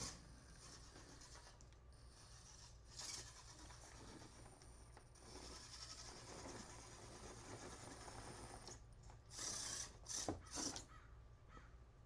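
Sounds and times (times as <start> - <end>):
toy crawler tires scraping obstacles: 0.0 - 10.9
faint motor and gears whirring: 0.0 - 12.0.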